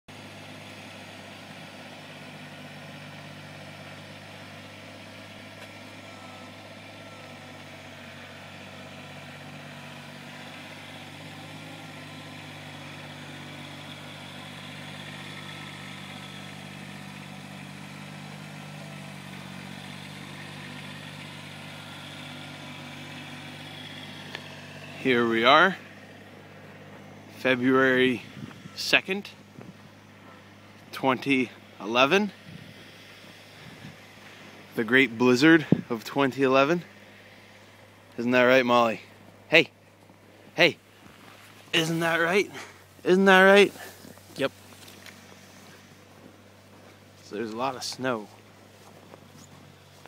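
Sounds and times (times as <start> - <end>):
engine humming: 0.0 - 50.0.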